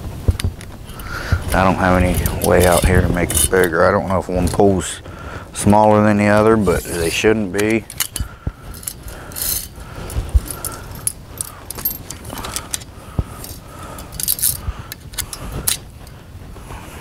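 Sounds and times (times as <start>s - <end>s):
metal poles and chains clinking: 0.9s - 5.0s, 5.8s - 15.8s.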